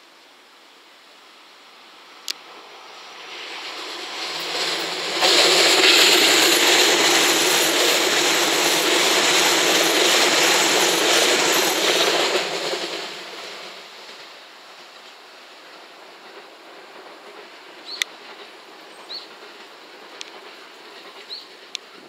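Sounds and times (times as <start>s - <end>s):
electric train passing: 1.2s - 22.0s.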